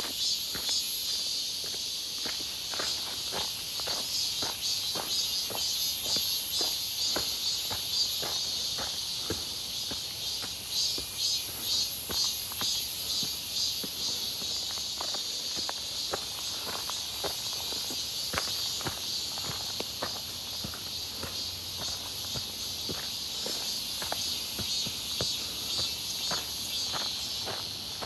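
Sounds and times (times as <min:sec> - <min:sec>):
cicadas buzzing: 0:00.0 - 0:28.0.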